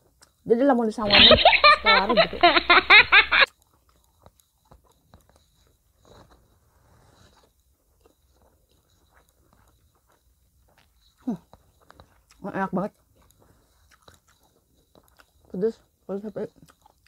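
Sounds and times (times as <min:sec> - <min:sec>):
faint chewing: 0:00.0 - 0:01.3, 0:03.4 - 0:17.0.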